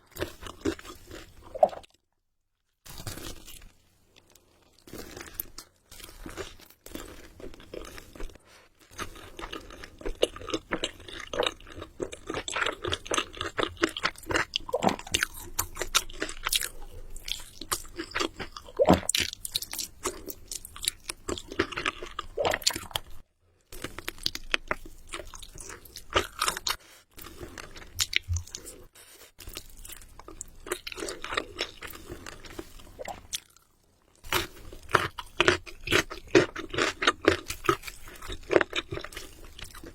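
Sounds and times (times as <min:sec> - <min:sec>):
chewing crunchy food: 0:00.0 - 0:02.0, 0:02.9 - 0:39.9.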